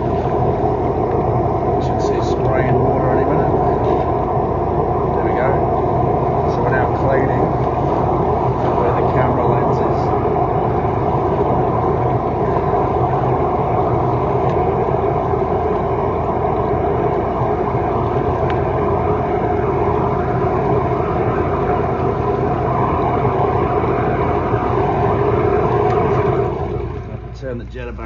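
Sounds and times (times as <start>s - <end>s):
drain jetter machine drone: 0.0s - 28.0s.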